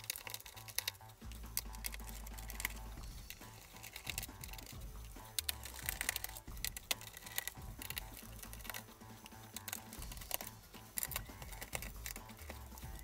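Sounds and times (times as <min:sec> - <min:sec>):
screwdriver clicking on screws: 0:00.0 - 0:13.0
small screws being handled: 0:00.0 - 0:13.0.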